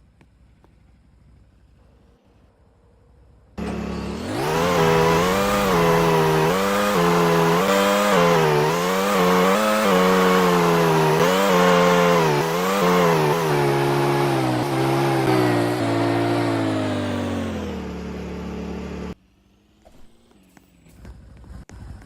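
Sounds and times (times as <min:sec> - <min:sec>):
small engine revving: 0:03.6 - 0:22.0.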